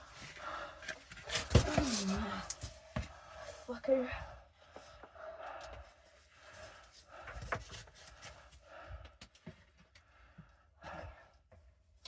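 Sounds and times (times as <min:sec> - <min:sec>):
person breathing and panting: 0:00.0 - 0:11.6.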